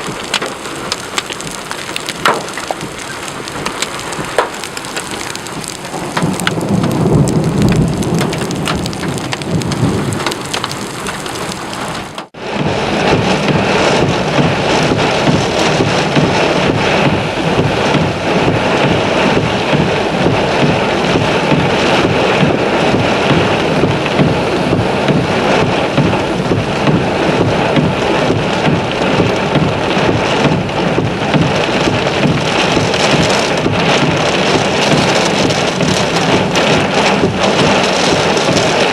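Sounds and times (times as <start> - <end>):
heavy rain pouring: 0.0 - 38.9
low rumble of thunder: 0.0 - 38.9.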